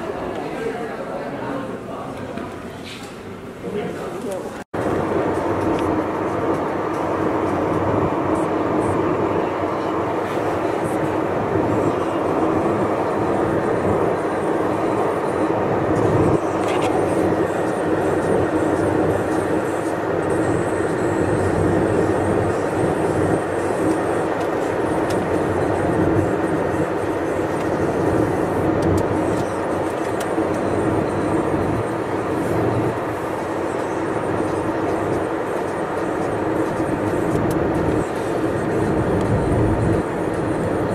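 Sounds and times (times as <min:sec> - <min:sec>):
car road and engine noise: 0:04.6 - 0:40.9.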